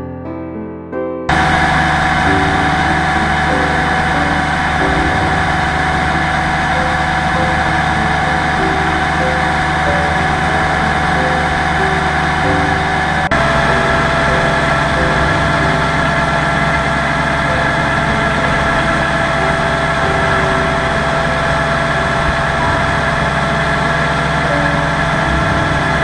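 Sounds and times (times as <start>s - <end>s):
motorcycle engine droning: 1.3s - 26.0s.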